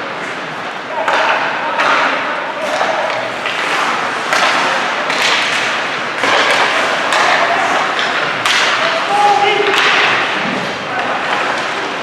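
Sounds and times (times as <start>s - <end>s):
knocks of sticks and puck: 0.9s - 12.0s
skate blades scraping ice: 2.0s - 12.0s.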